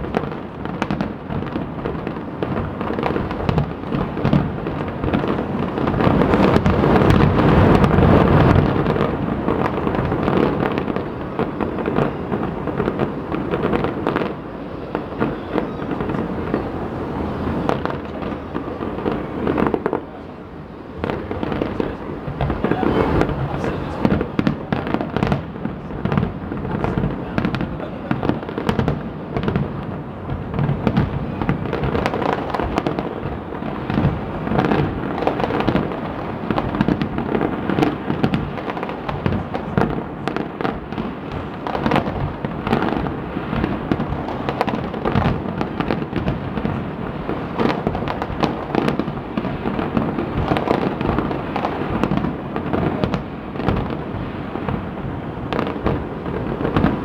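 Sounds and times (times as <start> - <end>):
fireworks booming and cracking: 0.0 - 57.0.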